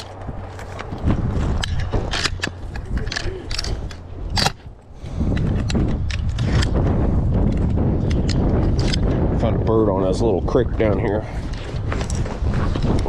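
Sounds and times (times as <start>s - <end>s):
gear clicking and rattling: 0.0s - 9.8s, 10.8s - 13.0s.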